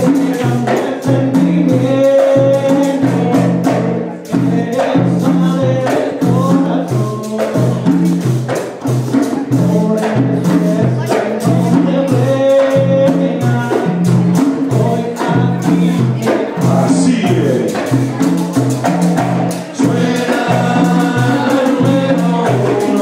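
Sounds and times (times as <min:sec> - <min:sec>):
frame drums beating: 0:00.0 - 0:23.0
hand percussion: 0:00.0 - 0:23.0
voices singing: 0:00.0 - 0:23.0.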